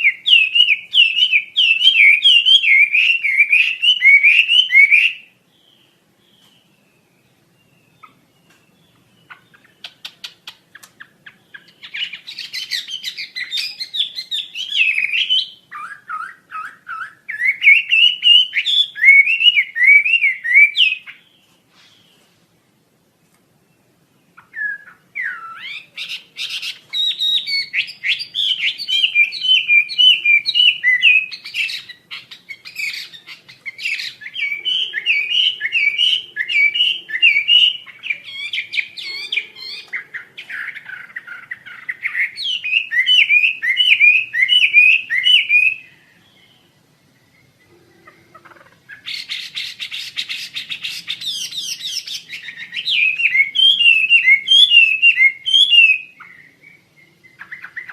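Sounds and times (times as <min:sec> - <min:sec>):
songbird chirping rapidly: 0:00.0 - 0:57.9.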